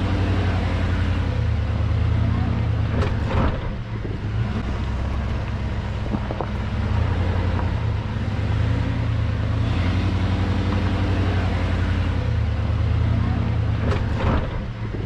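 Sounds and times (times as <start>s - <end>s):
vehicle engine driving off-road: 0.0s - 15.0s.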